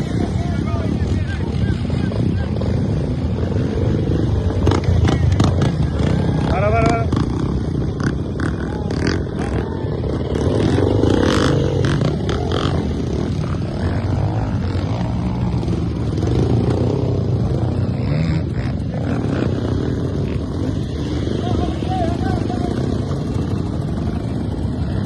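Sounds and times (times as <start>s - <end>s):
motorcycle engines running: 0.0s - 25.0s.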